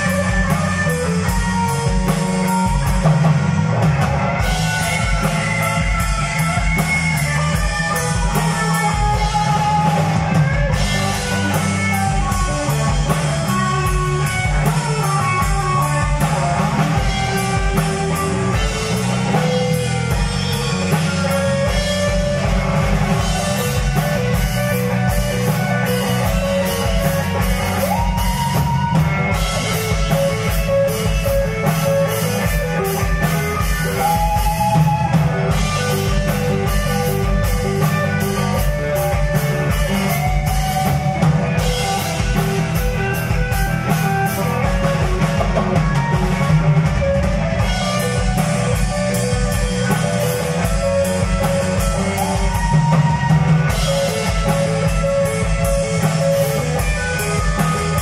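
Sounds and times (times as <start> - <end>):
electric guitar lead: 0.0 - 58.0
live rock band playing: 0.0 - 58.0.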